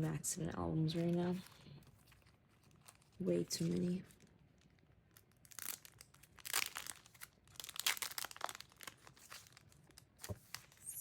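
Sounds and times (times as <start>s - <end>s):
packaging crinkling and rustling: 0.8s - 11.0s.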